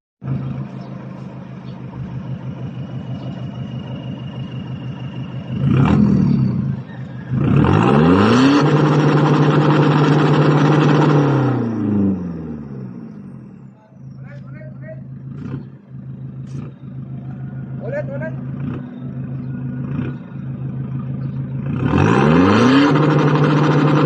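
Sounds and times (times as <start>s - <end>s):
diesel engine idling and revving: 0.2s - 24.0s.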